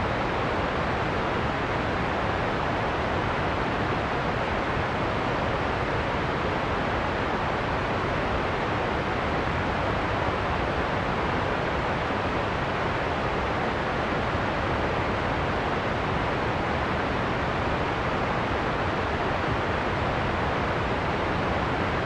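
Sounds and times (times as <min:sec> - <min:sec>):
heavy rain and wind: 0:00.0 - 0:22.0.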